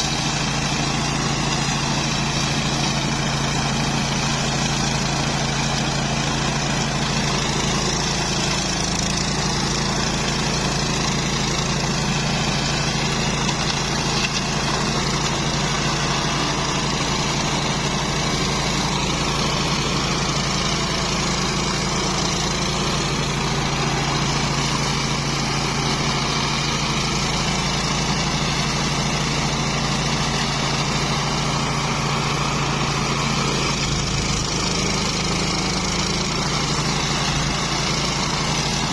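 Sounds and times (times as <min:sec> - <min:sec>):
flail mower engine running: 0:00.0 - 0:38.9.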